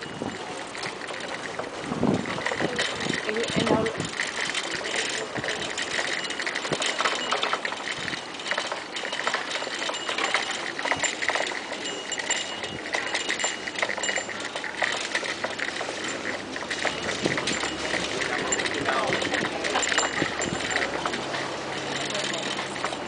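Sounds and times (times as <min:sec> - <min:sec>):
bicycle rattling over brick paving: 0:00.0 - 0:23.0.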